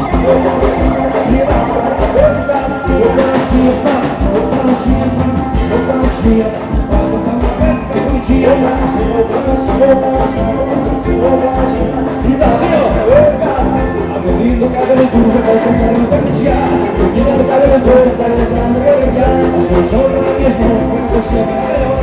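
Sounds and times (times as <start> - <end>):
band music: 0.0 - 22.0
drums keeping a steady beat: 0.0 - 22.0.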